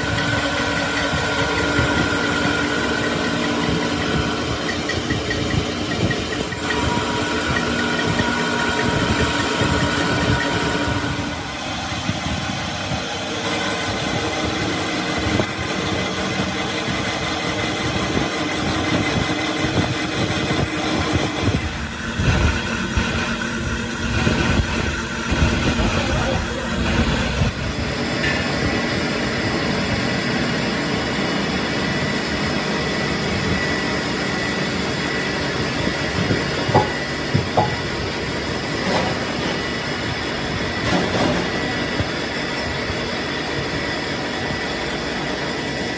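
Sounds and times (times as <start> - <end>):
grinding wheel on steel: 0.0 - 45.9
high whine: 0.0 - 45.9
steady machine running: 0.0 - 45.9.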